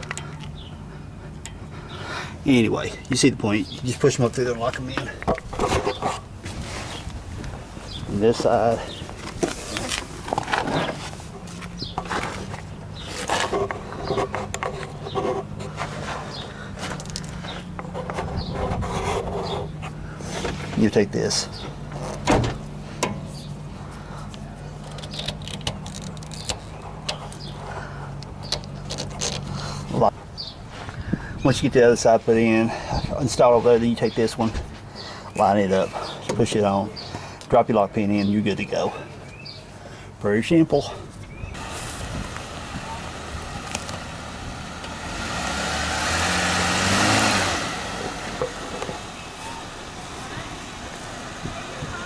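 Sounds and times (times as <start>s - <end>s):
car engine pulling: 0.0s - 52.0s
road noise: 0.0s - 52.0s.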